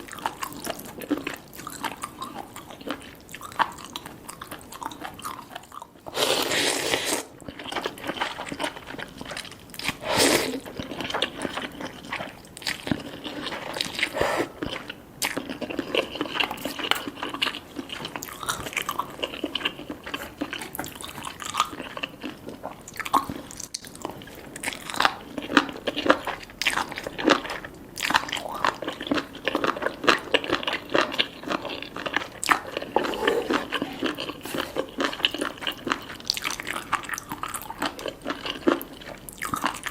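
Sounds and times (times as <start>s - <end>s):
chewing and biting noodles: 0.0s - 39.9s.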